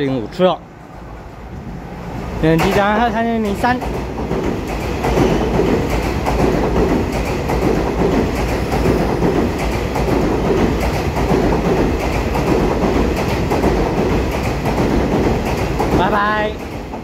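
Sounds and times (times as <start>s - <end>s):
train wheels rumbling on rail: 0.0s - 17.0s
wheels clacking over rail joints: 2.4s - 17.0s.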